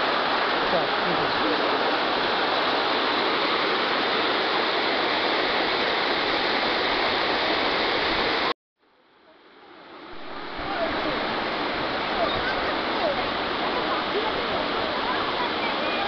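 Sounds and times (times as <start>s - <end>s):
water rushing down cascade: 0.0s - 16.0s.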